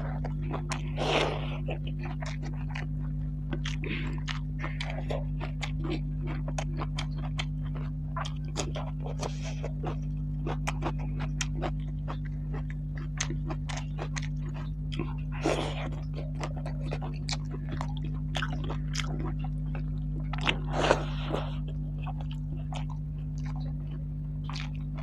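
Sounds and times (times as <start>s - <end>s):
steady low hum: 0.0s - 25.0s
wet chewing and lip smacks: 0.0s - 25.0s.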